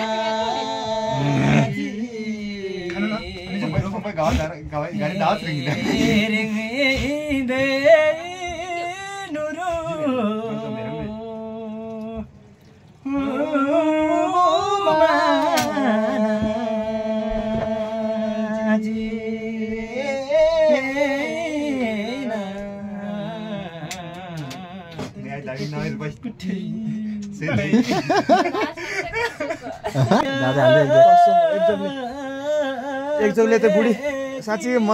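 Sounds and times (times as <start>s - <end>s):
man singing unaccompanied: 0.0s - 12.3s, 13.0s - 28.7s, 30.0s - 34.9s.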